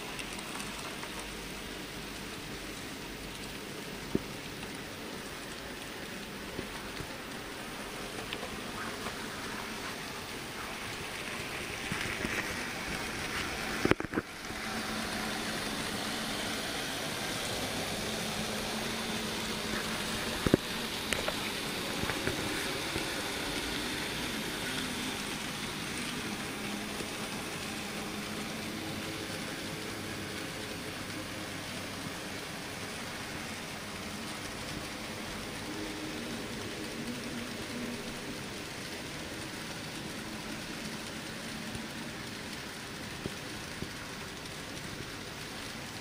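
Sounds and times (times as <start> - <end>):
model train running on track: 0.0 - 46.0.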